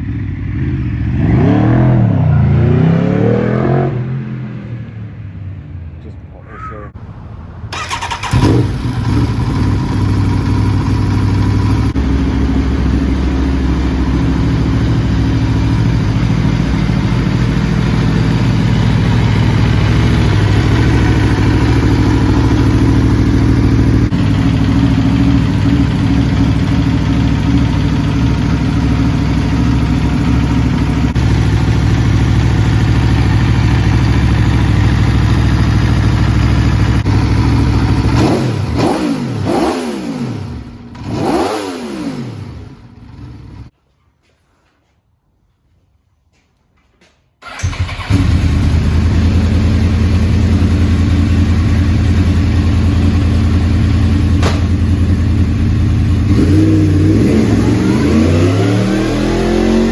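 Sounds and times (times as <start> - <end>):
motorcycle engine idling: 0.0 - 1.5, 7.7 - 43.7, 47.4 - 58.8.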